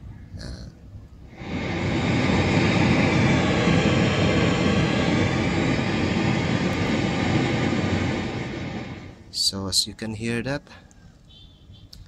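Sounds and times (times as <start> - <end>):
loud steady speaker hiss: 0.0 - 10.8.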